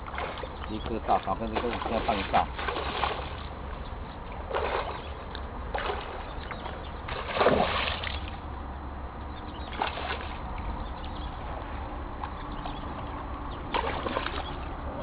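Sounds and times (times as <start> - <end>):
steady low hum: 0.0 - 15.0
water splashing and sloshing: 0.0 - 15.0.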